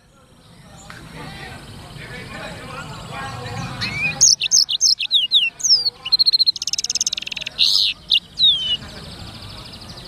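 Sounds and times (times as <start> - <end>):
canary singing: 1.6 - 10.0.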